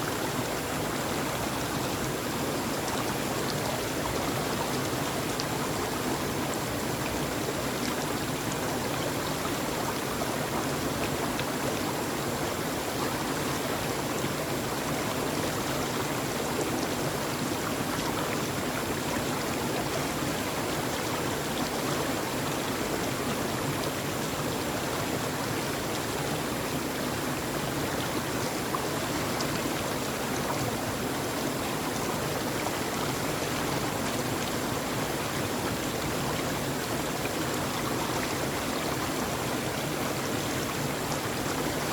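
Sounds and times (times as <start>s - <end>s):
flowing water: 0.0s - 41.9s.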